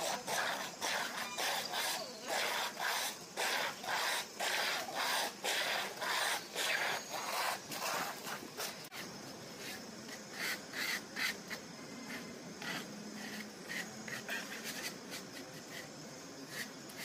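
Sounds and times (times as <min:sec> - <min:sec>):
trowel scraping wet cement: 0:00.0 - 0:15.9.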